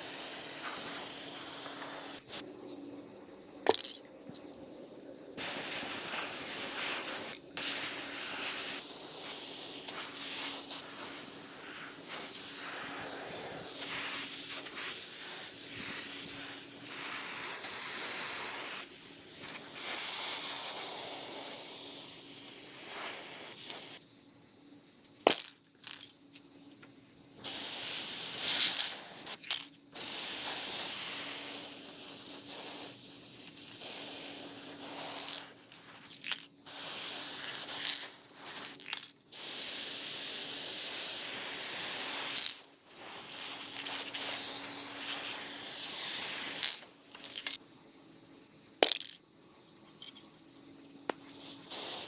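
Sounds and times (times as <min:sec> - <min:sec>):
aerosol spray can hissing: 0:00.0 - 0:02.5, 0:05.4 - 0:24.0, 0:27.4 - 0:47.6, 0:51.1 - 0:52.0.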